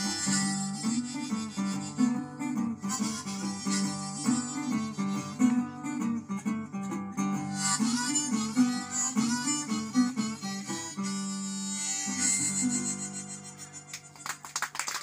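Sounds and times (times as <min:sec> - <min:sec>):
strummed acoustic guitar: 0:00.0 - 0:14.4
harmonica melody: 0:00.0 - 0:14.5.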